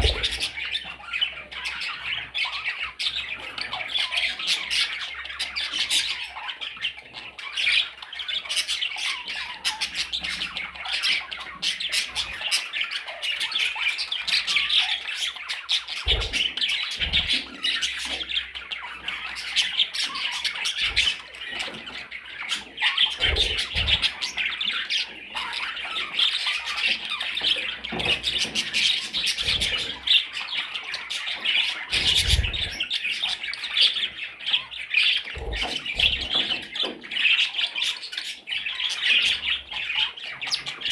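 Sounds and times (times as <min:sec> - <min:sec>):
parrots chattering and squawking: 0:00.0 - 0:40.9.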